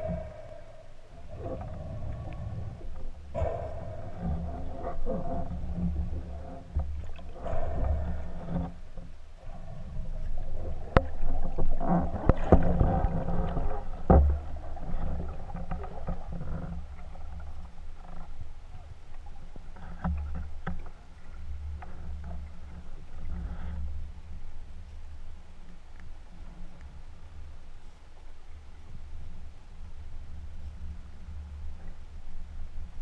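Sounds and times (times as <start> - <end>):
underwater rumble: 0.0 - 33.0.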